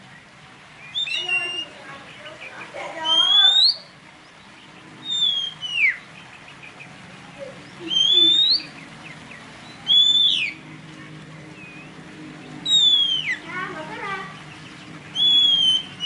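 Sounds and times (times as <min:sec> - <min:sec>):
bird whistled song: 0:00.8 - 0:10.6, 0:11.5 - 0:13.5, 0:14.3 - 0:16.0.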